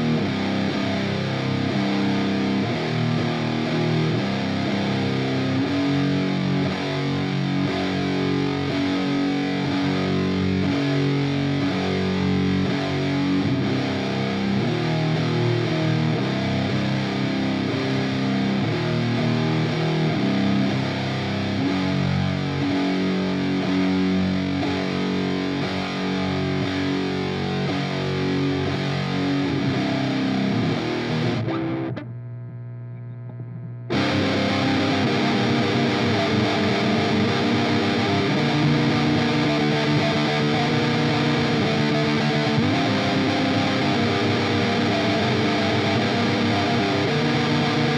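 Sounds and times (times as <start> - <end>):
distorted electric guitar riffs: 0.0 - 47.9.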